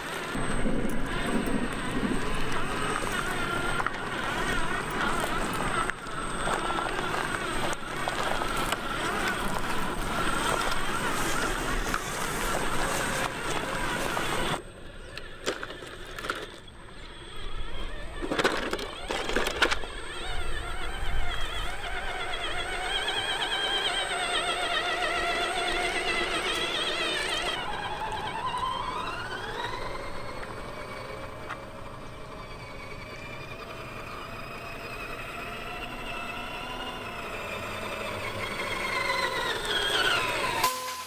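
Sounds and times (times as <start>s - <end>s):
rc truck motor whine: 0.0s - 41.0s.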